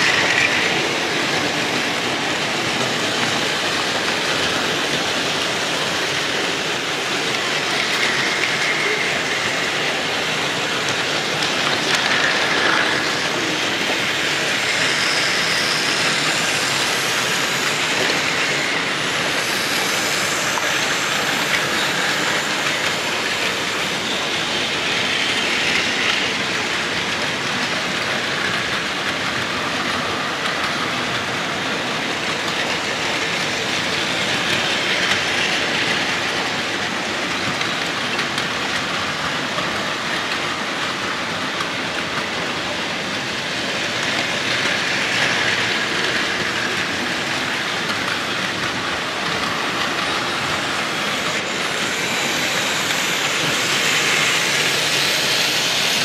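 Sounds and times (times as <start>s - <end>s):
toy trains whirring and rattling: 0.0s - 56.0s.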